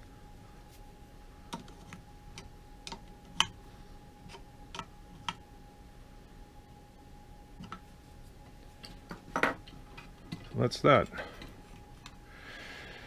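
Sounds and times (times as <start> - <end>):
faint high hum: 0.0 - 13.0.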